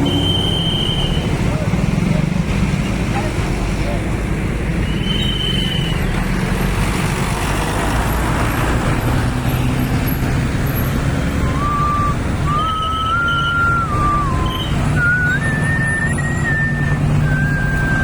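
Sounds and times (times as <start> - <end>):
bus engine rumbling: 0.0 - 18.0
road traffic: 0.0 - 18.0.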